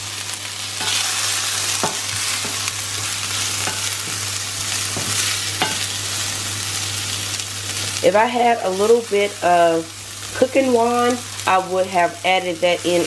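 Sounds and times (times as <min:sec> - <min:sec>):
onions sizzling in a skillet: 0:00.0 - 0:13.0.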